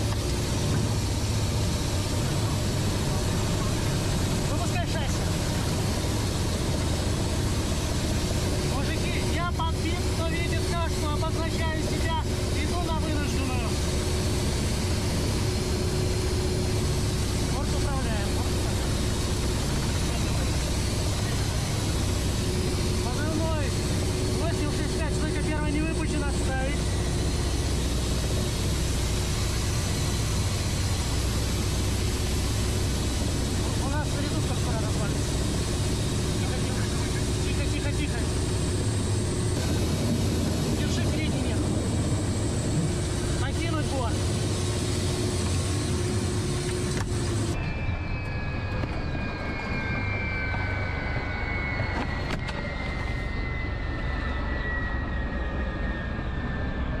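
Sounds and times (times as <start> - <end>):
helicopter engine and rotor drone: 0.0 - 57.0
high turbine whine: 0.0 - 57.0.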